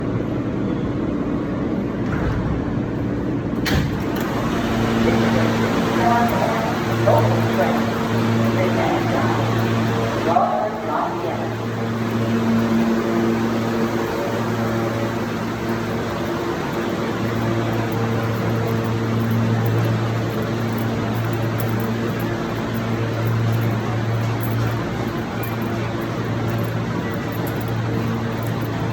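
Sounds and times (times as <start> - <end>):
subway train rumble: 0.0 - 28.9
low constant hum: 2.1 - 28.9.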